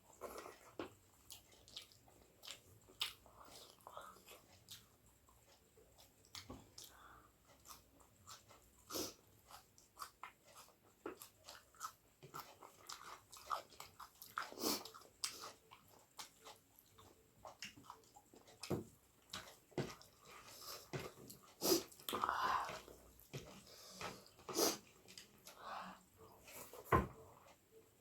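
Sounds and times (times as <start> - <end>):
person chewing food: 0.0 - 27.8.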